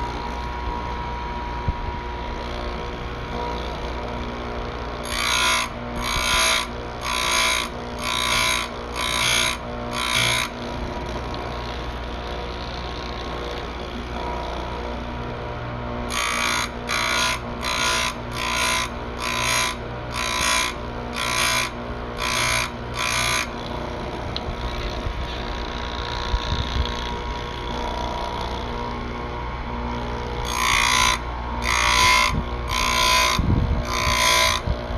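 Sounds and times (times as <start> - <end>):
grinder motor hum: 0.0 - 34.9.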